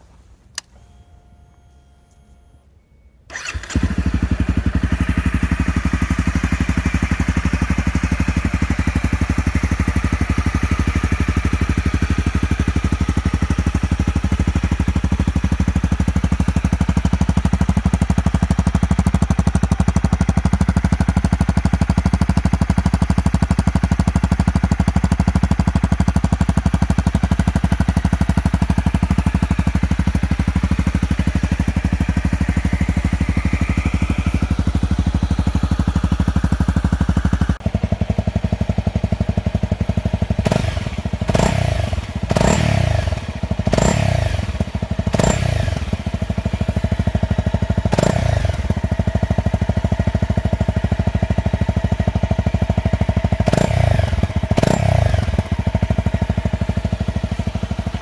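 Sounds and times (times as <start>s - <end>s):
motorcycle engine starting and idling: 0.1s - 58.0s.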